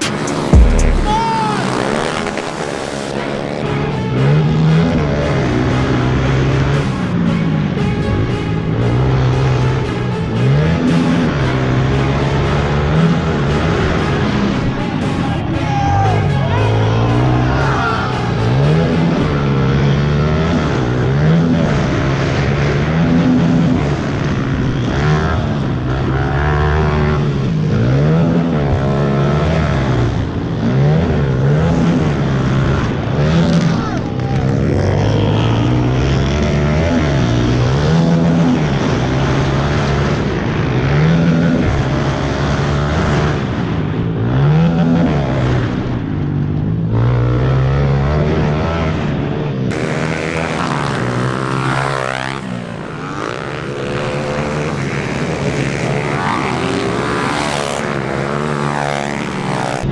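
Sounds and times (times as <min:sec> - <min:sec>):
pit bike engines revving: 0:00.0 - 0:59.9.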